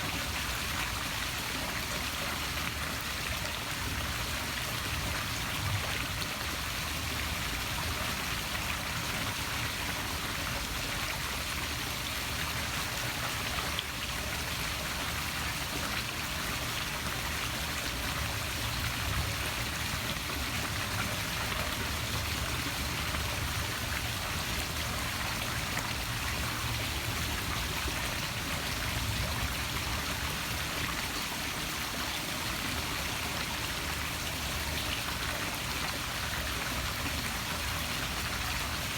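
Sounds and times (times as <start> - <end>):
waterfall splashing into pool: 0.0 - 38.9.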